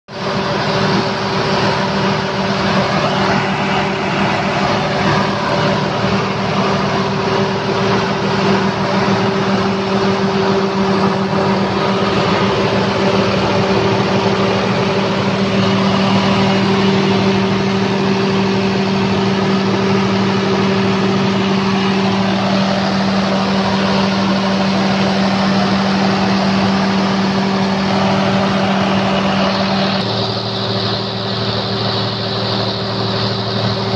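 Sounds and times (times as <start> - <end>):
diesel generator engine running: 0.1 - 33.9.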